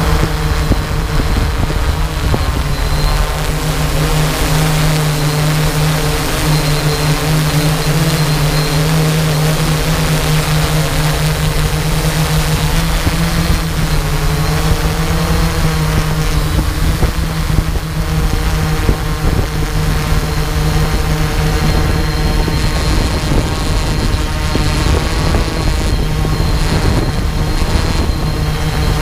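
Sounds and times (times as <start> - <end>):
drone propellers whirring: 0.0 - 29.0.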